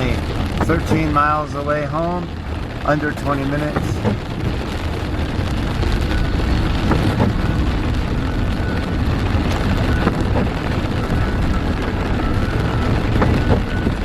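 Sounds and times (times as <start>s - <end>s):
hiss of rain and spray: 0.0s - 14.0s
road and engine rumble: 0.0s - 14.0s.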